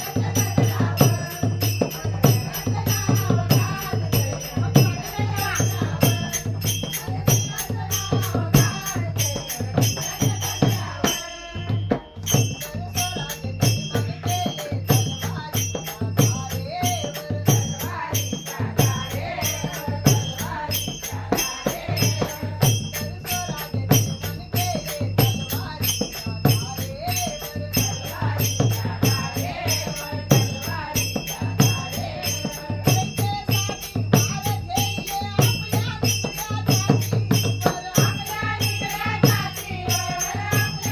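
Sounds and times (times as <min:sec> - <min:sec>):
devotional song music with percussion: 0:00.0 - 0:40.9.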